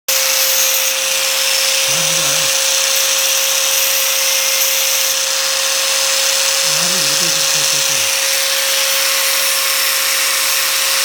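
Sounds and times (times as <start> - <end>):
electric grinder running: 0.3 - 11.0.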